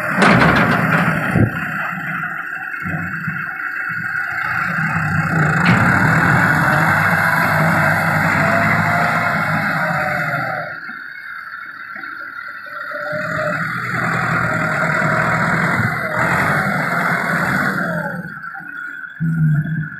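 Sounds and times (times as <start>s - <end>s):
diesel tractor engine running: 0.0s - 12.0s, 12.8s - 18.6s.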